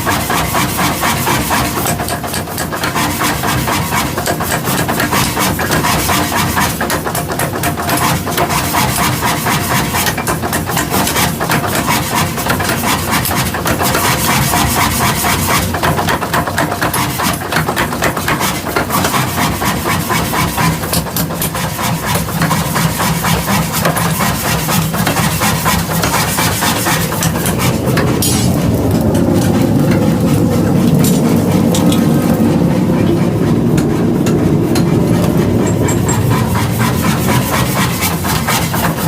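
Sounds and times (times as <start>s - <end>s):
continuous machinery roar: 0.0s - 39.0s
rapid machinery knocks: 0.0s - 39.0s.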